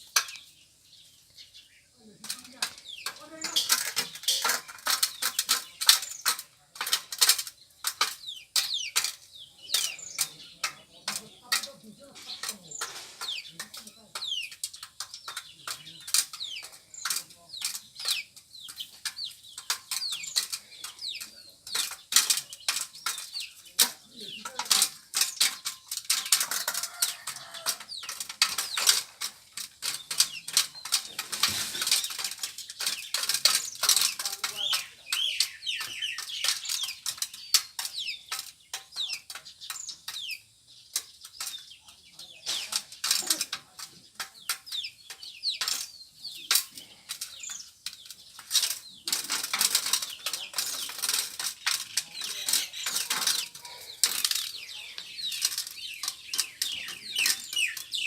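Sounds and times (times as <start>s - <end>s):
turkeys chirping: 0.0s - 58.0s
turkeys pecking at feed: 0.0s - 58.0s.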